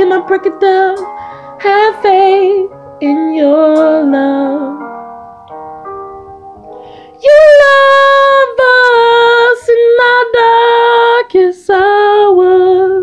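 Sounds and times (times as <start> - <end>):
woman singing unaccompanied: 0.0 - 4.9, 7.2 - 13.0.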